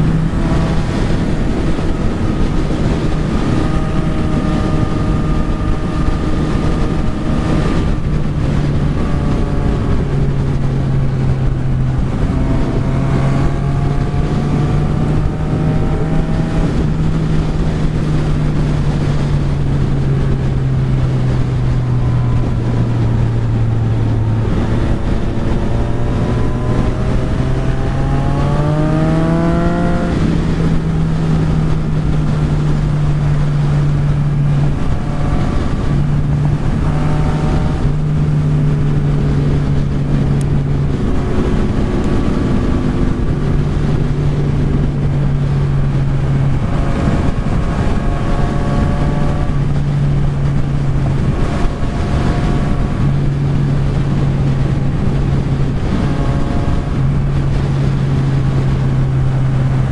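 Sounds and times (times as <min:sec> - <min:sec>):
motorcycle engine running: 0:00.0 - 0:59.9
wind rush over microphone: 0:00.0 - 0:59.9.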